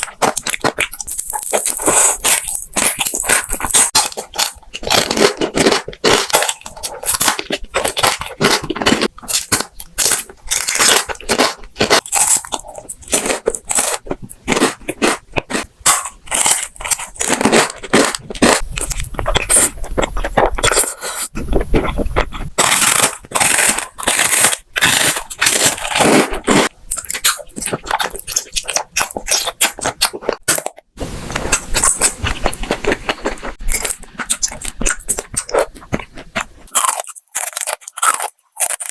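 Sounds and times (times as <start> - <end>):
crunching and chewing crisp food: 0.0 - 38.9.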